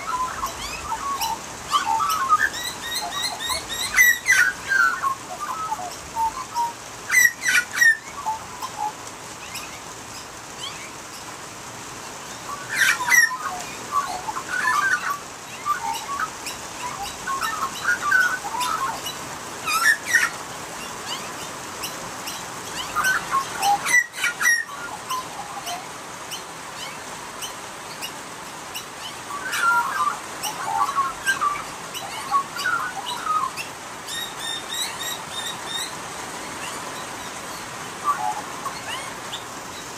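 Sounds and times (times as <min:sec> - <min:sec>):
magpies carolling and warbling: 0:00.0 - 0:11.2, 0:12.4 - 0:39.9
steady rain hiss: 0:00.0 - 0:39.9.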